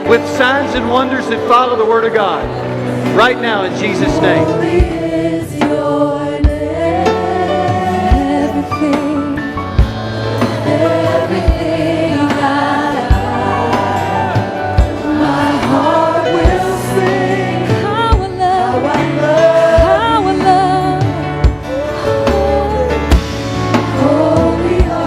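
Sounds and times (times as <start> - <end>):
band chords: 0.0 - 25.0
gospel choir and lead singing: 0.0 - 25.0.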